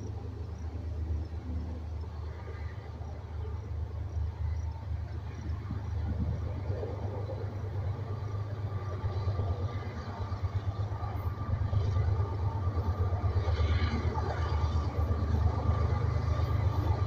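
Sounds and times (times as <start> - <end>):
diesel freight train rumbling: 0.0 - 17.0.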